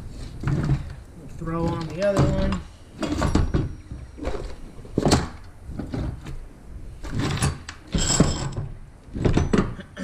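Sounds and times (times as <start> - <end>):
metal clanks and rattles: 0.4 - 6.4, 7.0 - 9.9.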